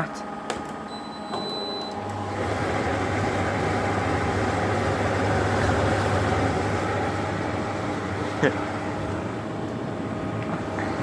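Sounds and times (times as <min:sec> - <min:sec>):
tumble dryer drum humming: 0:00.0 - 0:11.0.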